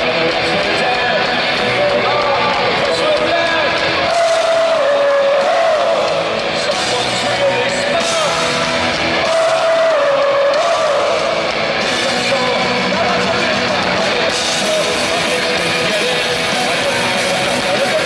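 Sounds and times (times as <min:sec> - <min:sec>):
punk rock band playing live: 0:00.0 - 0:18.0.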